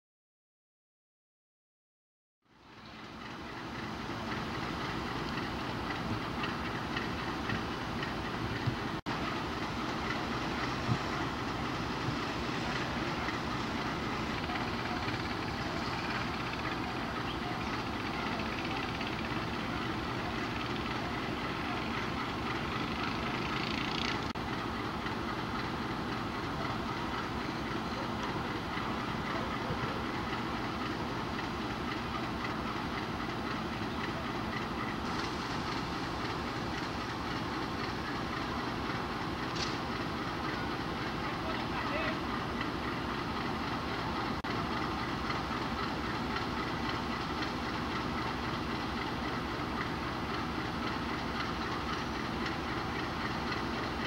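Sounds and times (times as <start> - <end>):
diesel locomotive engine rumble: 2.4 - 54.0
train wheel clatter: 2.7 - 54.0.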